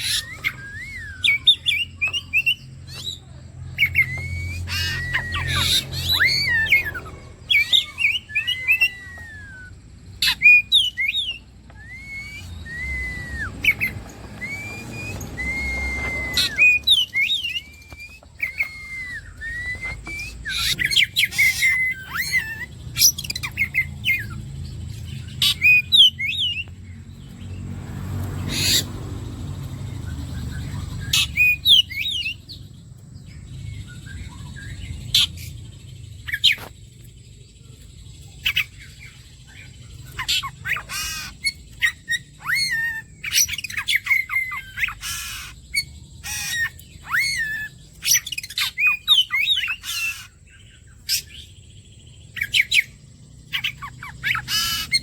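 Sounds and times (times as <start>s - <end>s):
bird singing whistled notes: 0.0s - 27.6s, 28.4s - 55.0s
harsh scratchy bird calls: 0.0s - 55.0s.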